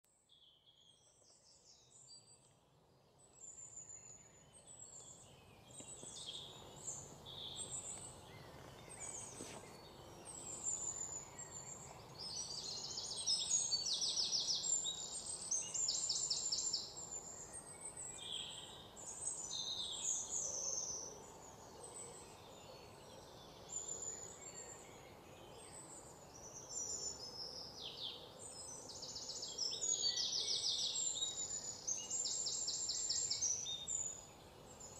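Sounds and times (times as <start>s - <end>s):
small birds chirping: 0.1s - 34.9s
outdoor ambience hush: 0.2s - 34.9s.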